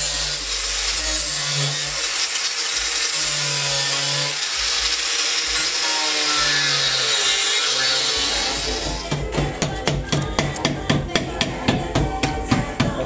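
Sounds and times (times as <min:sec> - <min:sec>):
angle grinder cutting plastic: 0:00.0 - 0:10.9.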